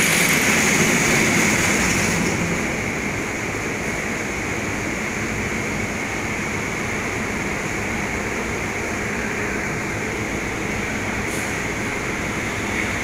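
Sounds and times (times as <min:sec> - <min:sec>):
ship machinery drone: 0:00.0 - 0:13.0.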